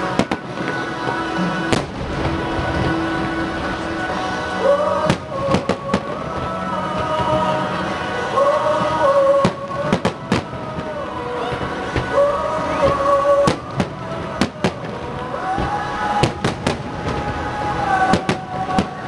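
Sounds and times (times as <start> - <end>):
music with long held notes: 0.0 - 19.0.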